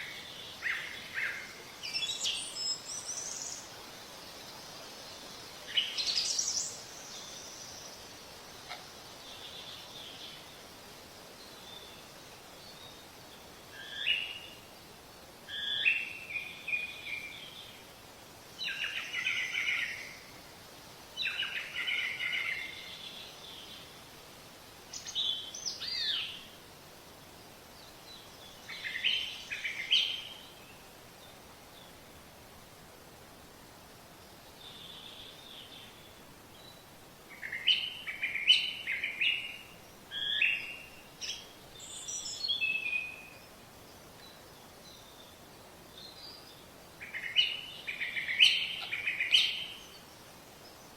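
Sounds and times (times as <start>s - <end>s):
songbird chirping: 0.0s - 20.5s, 21.1s - 24.2s, 24.8s - 50.9s
faint outdoor hiss: 0.0s - 50.9s.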